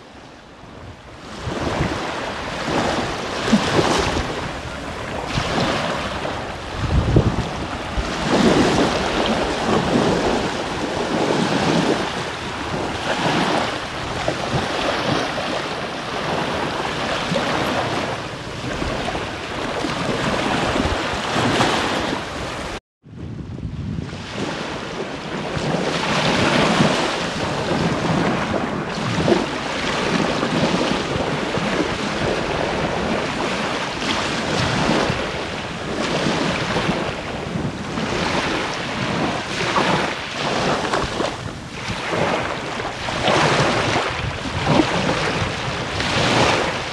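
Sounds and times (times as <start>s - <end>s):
small waves breaking on sand: 0.0s - 22.8s, 23.9s - 46.9s
wind buffeting the microphone: 0.0s - 46.9s.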